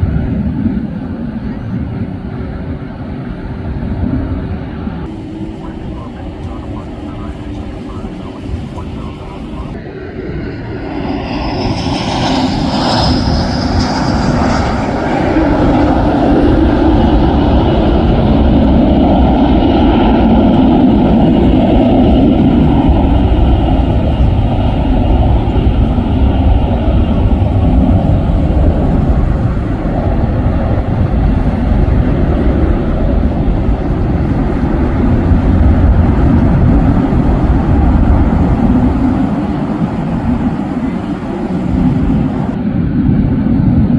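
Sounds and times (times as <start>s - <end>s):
jet engine rumble: 0.0s - 43.9s
jet engine whine: 0.0s - 43.9s.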